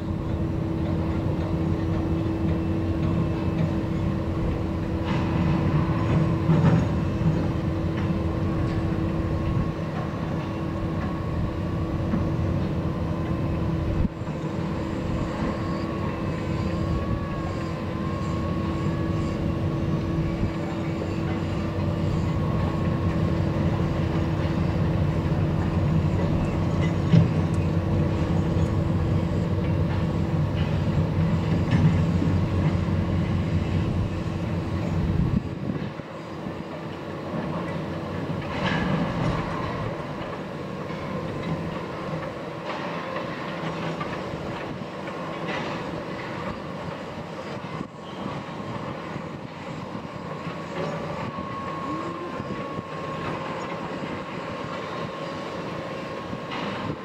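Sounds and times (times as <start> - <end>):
constant hum: 0.0 - 57.0
large engine droning: 0.0 - 57.0.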